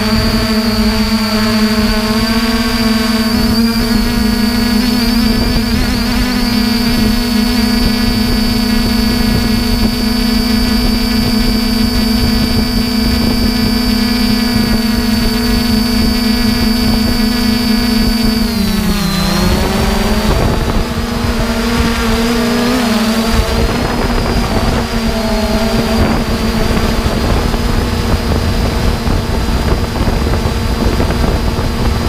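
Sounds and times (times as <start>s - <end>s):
drone motors humming: 0.0s - 32.0s
thin high whine: 0.0s - 32.0s.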